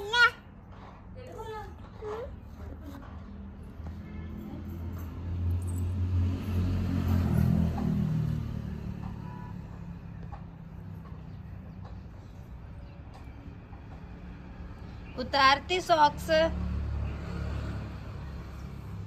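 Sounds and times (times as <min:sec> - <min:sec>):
vehicle engine passing by: 0:02.4 - 0:12.7, 0:13.5 - 0:19.0.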